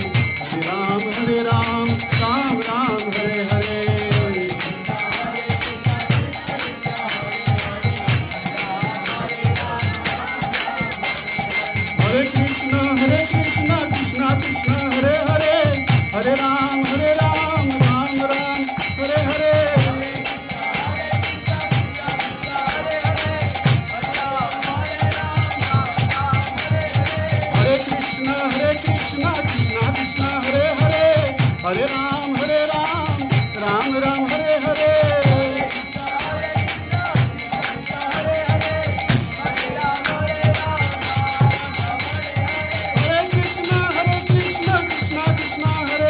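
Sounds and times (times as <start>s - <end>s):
hand drum beat: 0.0s - 20.2s, 20.8s - 46.0s
jingling hand cymbals: 0.0s - 46.0s.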